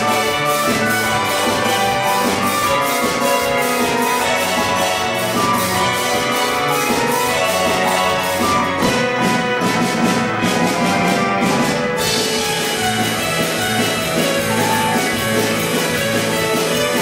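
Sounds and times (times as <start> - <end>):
drum kit beat: 0.0 - 17.0
plucked string ensemble playing: 0.0 - 17.0.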